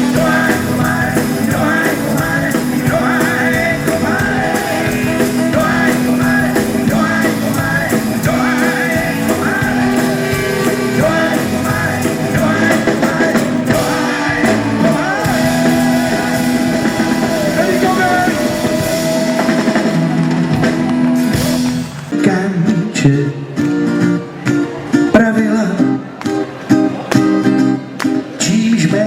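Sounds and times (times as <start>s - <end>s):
live rock band playing: 0.0s - 28.5s.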